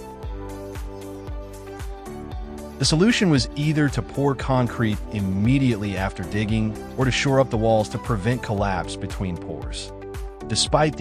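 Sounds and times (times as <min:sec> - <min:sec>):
background music with low beat: 0:00.0 - 0:11.0.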